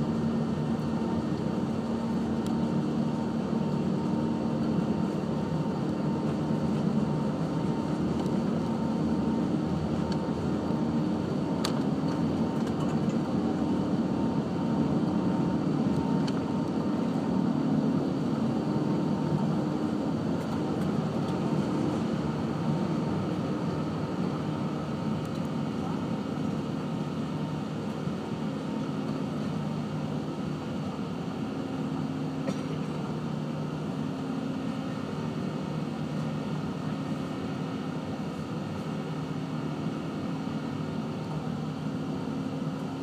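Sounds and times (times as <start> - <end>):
aircraft cabin rumble: 0.0 - 43.0.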